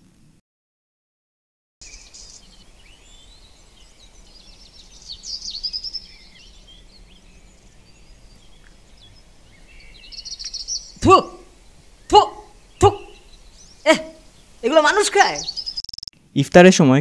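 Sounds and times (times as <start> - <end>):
birds chirping and calling: 1.8 - 16.1
faint outdoor background: 1.8 - 17.0.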